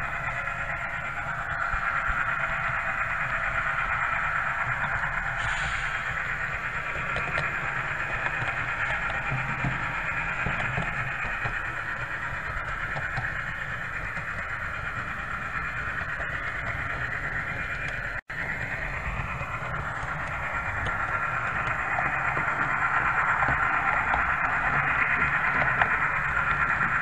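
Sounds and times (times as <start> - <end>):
low rumble: 0.0 - 27.0
model train diesel engine sound: 0.0 - 27.0.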